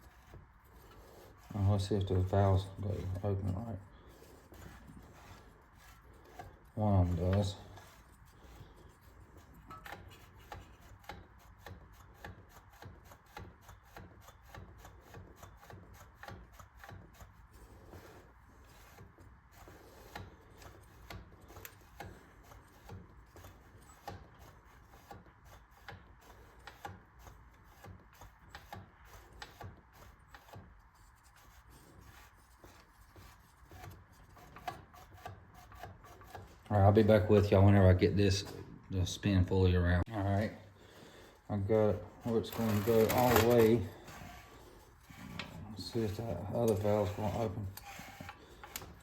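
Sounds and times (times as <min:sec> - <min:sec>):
engine flywheel scraping and clicking: 0:00.0 - 0:49.0.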